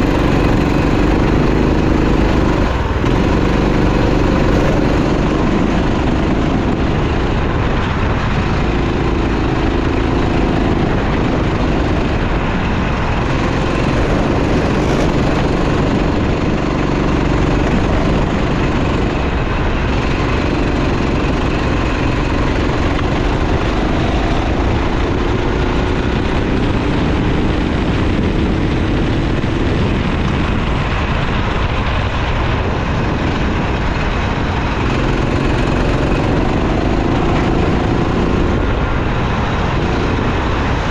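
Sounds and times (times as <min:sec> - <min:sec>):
racing kart engine revving: 0:00.0 - 0:40.9
steady rushing noise: 0:00.0 - 0:40.9.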